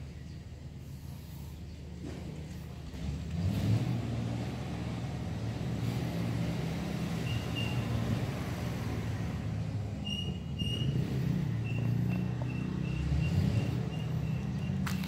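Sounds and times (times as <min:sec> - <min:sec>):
motor vehicle rumbling: 0:00.0 - 0:15.0.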